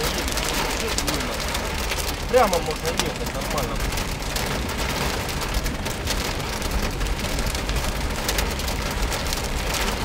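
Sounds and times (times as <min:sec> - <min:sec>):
car rumbling on road: 0:00.0 - 0:10.0
heavy rain on car roof: 0:00.0 - 0:10.0.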